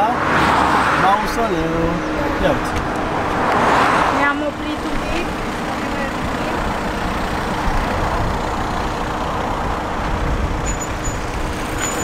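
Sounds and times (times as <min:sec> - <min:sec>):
low rumble of motor vehicles: 0:00.0 - 0:12.0.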